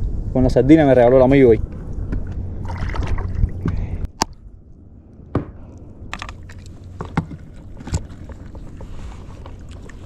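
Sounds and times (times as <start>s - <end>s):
water: 0.0s - 10.0s
wind: 0.0s - 10.0s.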